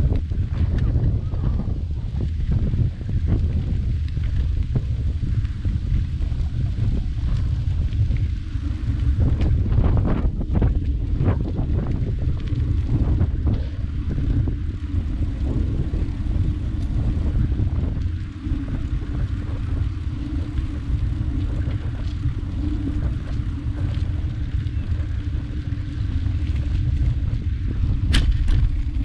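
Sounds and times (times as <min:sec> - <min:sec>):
bicycle tyres rolling on pavement: 0:00.0 - 0:29.0
wind buffeting microphone: 0:00.0 - 0:29.0.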